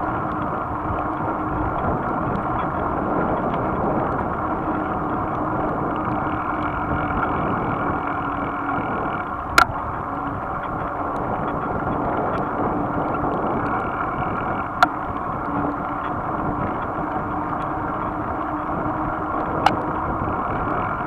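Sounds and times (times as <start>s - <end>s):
bicycle tyres on wet road: 0.0s - 21.0s
rushing wind: 0.0s - 21.0s.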